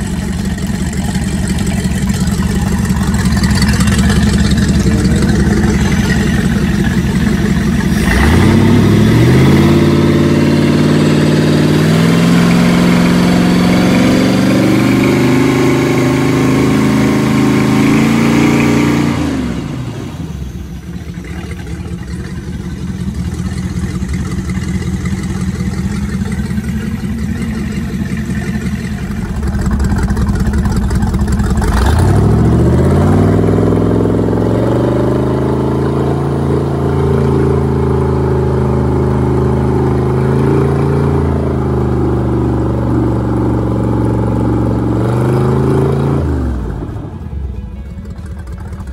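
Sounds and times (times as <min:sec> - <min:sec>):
water spraying from exhaust: 0:00.0 - 0:47.0
boat engine revving and idling: 0:00.0 - 0:48.9.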